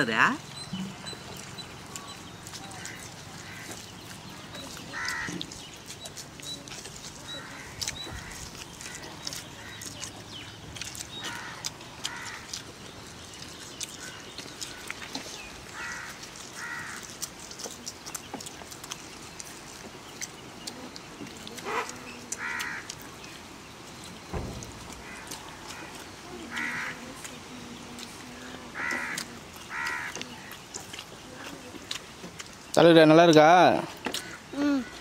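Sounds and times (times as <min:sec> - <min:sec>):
birds calling harshly: 0:00.0 - 0:35.0.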